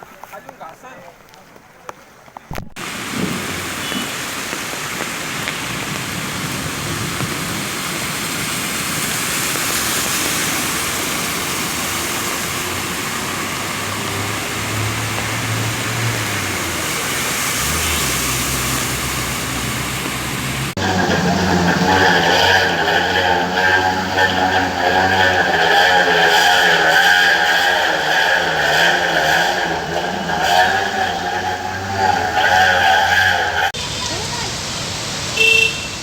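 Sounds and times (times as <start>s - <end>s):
low engine hum: 2.8s - 35.5s
rushing water: 2.8s - 36.0s.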